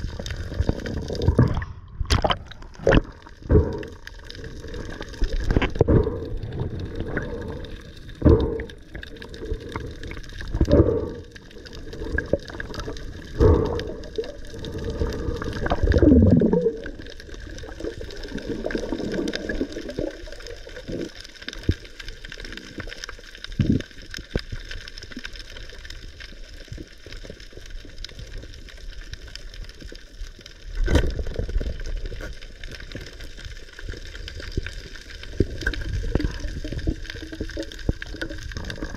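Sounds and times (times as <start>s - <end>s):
muffled underwater water rushing: 0.0s - 38.9s.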